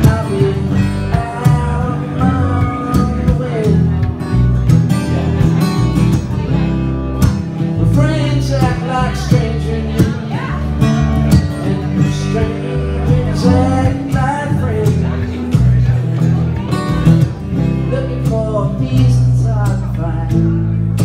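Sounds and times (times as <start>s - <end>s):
man singing: 0.0s - 4.5s, 5.1s - 21.0s
acoustic guitar strummed: 0.0s - 21.0s.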